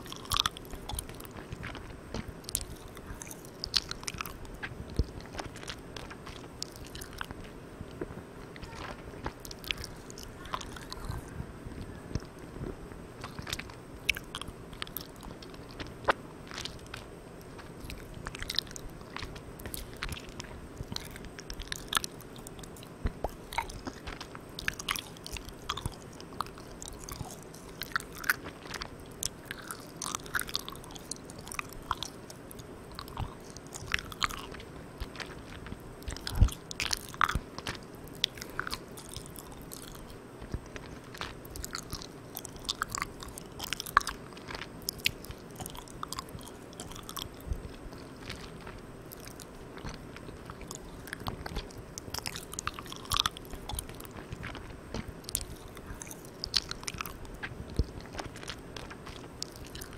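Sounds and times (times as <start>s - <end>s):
chewy eating mouth clicks: 0.0s - 59.9s
recorder hiss: 0.0s - 59.9s.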